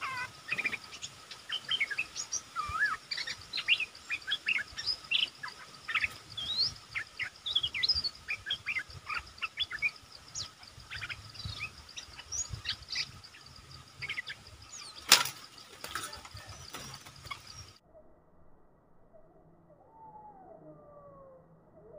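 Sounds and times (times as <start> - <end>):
birds chirping and whistling: 0.0 - 17.8.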